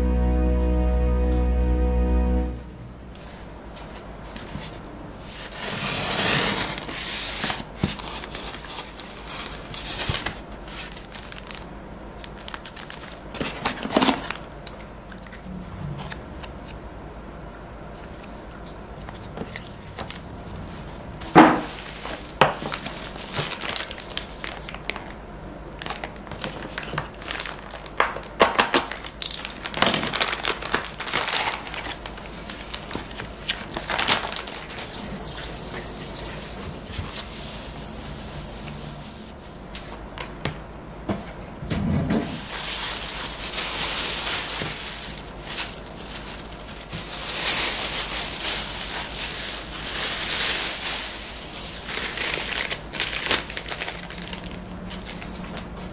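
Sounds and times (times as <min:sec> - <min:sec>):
plastic packaging crinkling: 0:04.3 - 0:15.4, 0:19.0 - 0:39.4, 0:42.2 - 0:55.7.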